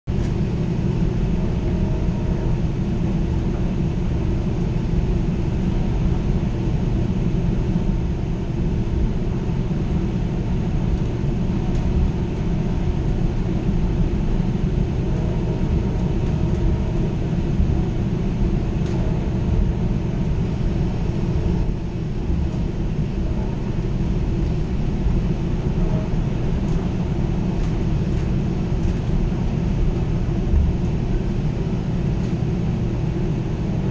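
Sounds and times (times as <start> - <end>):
train rumbling along track: 0.1 - 33.9.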